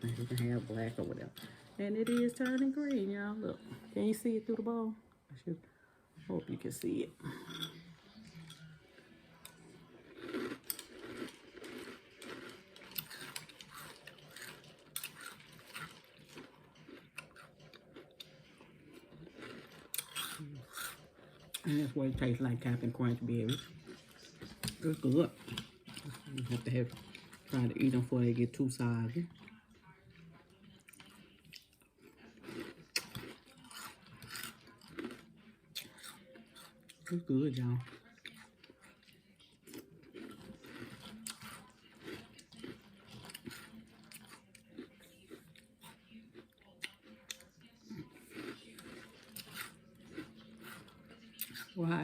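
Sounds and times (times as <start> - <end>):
chewing crunchy cereal: 7.3 - 52.0.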